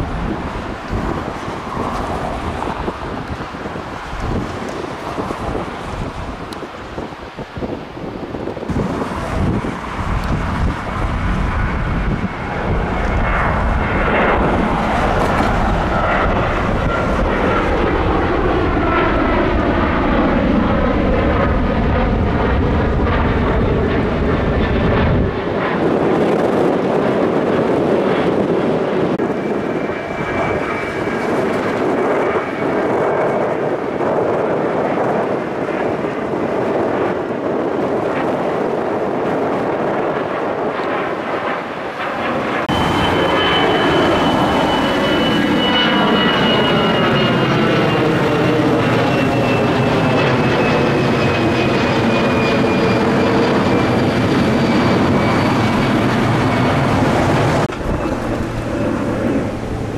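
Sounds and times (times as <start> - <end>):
jet engine rumble: 0.0 - 59.9
jet engine whine: 0.0 - 59.9
wind buffeting microphone: 0.0 - 59.9.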